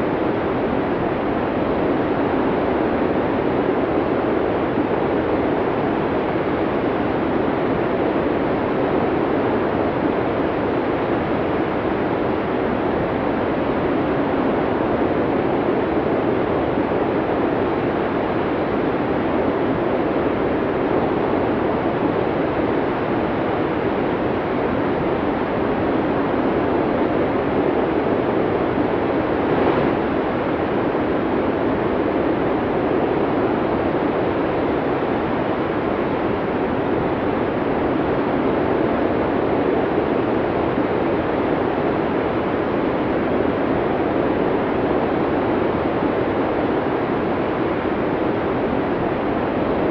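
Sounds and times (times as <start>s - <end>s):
snowstorm wind blowing: 0.0s - 49.9s.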